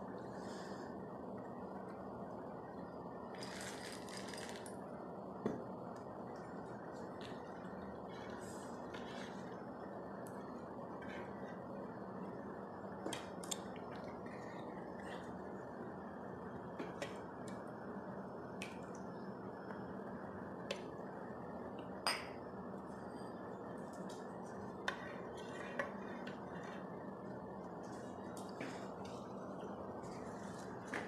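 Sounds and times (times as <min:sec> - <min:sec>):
steady low hiss: 0:00.0 - 0:31.0.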